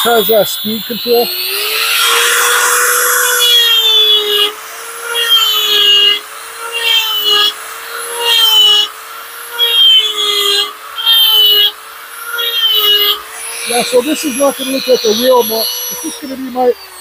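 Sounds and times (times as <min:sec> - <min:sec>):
die grinder cutting wood: 0:00.0 - 0:17.0.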